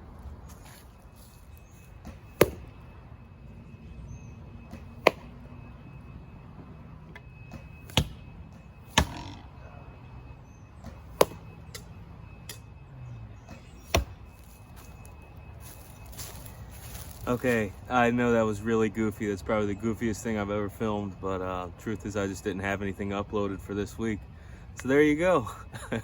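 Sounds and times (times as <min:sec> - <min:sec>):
low steady background: 0:00.0 - 0:26.0.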